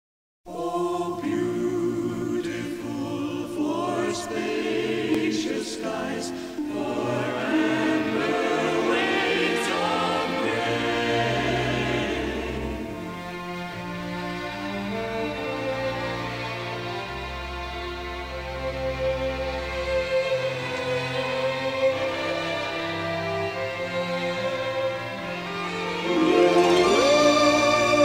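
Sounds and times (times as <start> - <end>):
choir singing sustained notes: 0.5 - 28.0
orchestral accompaniment: 0.6 - 28.0.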